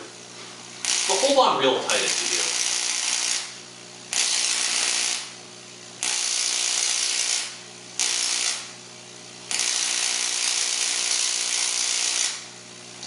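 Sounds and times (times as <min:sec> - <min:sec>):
tesla coil arcs buzzing: 0:00.0 - 0:13.0.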